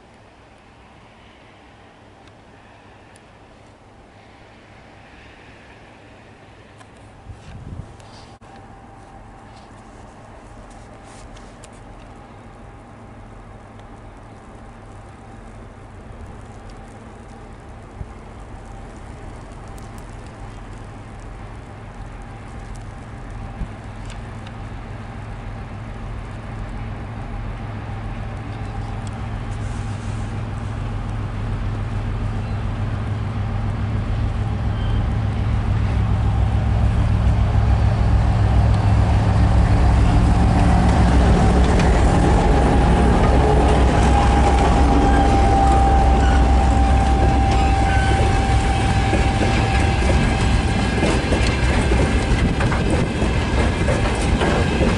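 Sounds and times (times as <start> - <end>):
diesel locomotive passing: 0.0 - 54.9.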